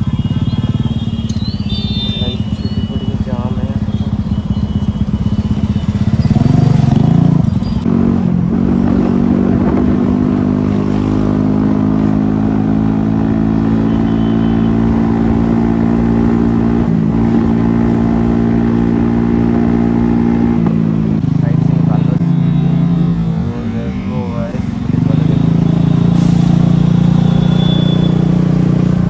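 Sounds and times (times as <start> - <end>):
scooter engine droning: 0.0 - 29.0.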